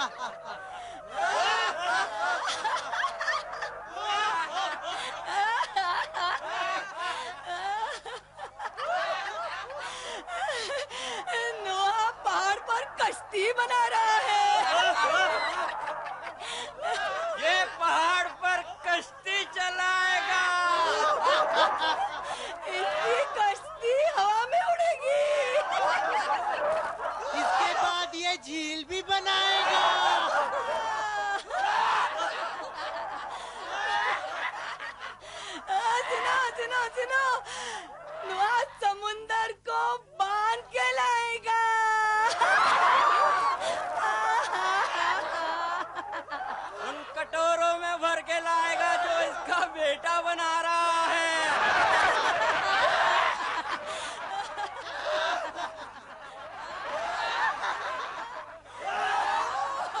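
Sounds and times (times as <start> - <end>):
group of people laughing: 0.0 - 60.0.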